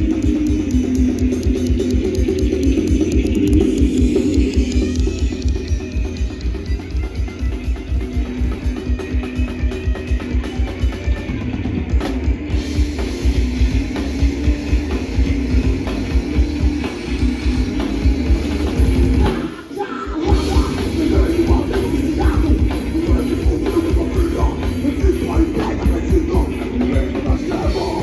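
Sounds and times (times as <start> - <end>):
bass guitar: 0.0 - 28.0
distorted electric guitar: 0.0 - 28.0.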